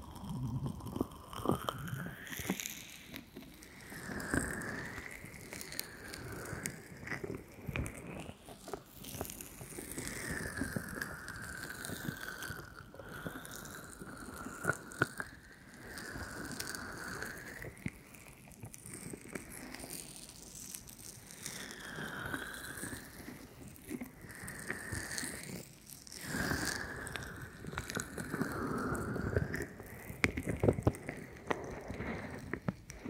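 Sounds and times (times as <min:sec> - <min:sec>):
small crackles and clicks: 0:00.0 - 0:33.0.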